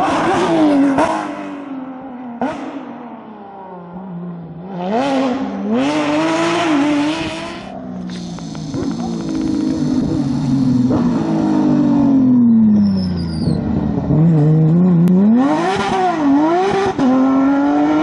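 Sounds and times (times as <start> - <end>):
rally car engines at speed: 0.0 - 18.0.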